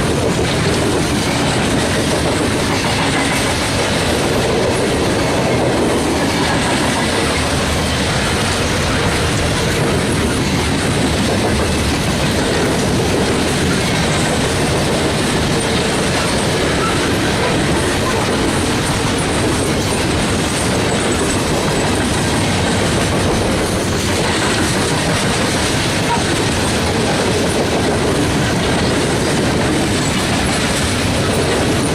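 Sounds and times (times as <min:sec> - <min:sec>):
train wheels clattering over rail joints: 0:00.0 - 0:31.9.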